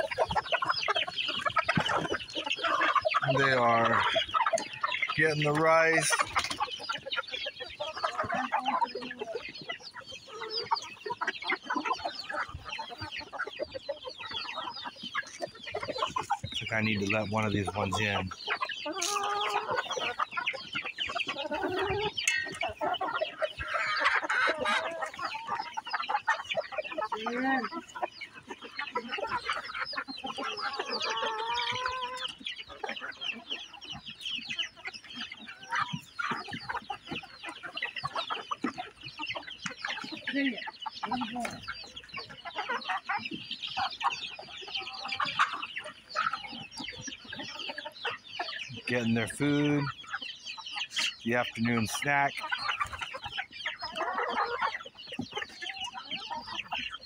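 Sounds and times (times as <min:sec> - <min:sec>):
drawn-out hen call: 0:00.0 - 0:57.0
hens clucking and squawking: 0:00.0 - 0:57.0.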